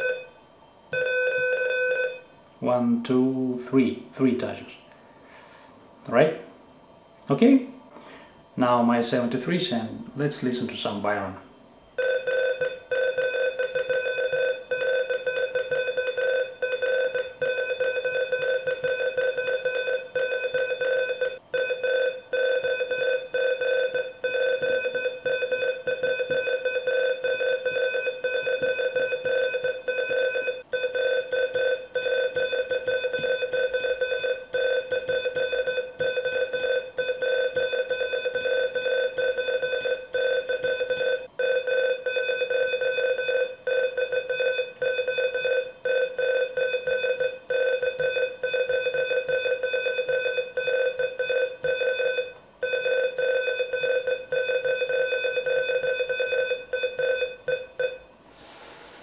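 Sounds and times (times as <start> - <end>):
morse code beeps: 0.0 - 0.3, 1.0 - 2.2, 12.0 - 58.1.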